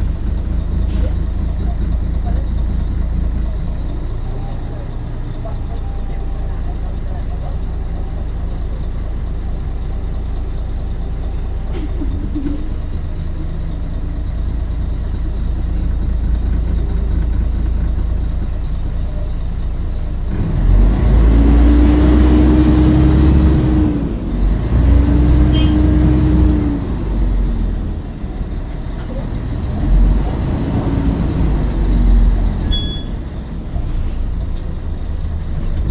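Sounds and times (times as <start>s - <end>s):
bus diesel engine droning: 0.0s - 35.9s.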